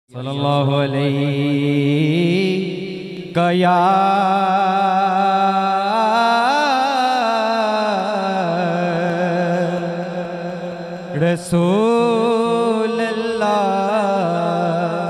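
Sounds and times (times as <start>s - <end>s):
man singing into a microphone: 0.1s - 15.0s.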